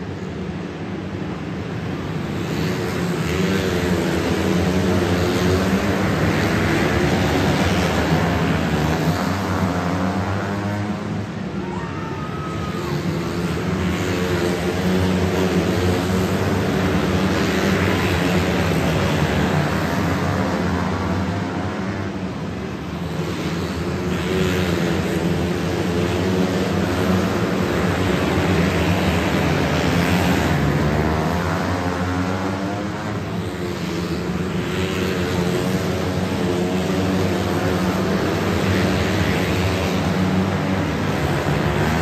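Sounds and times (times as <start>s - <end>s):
racing car engines droning: 0.0s - 42.0s.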